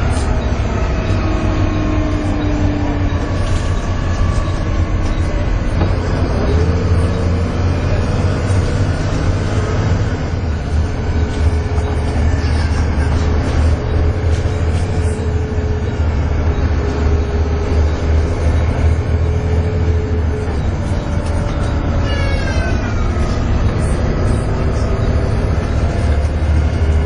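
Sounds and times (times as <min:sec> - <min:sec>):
bus diesel engine drone: 0:00.0 - 0:27.0
high-pitched engine whine: 0:00.0 - 0:27.0.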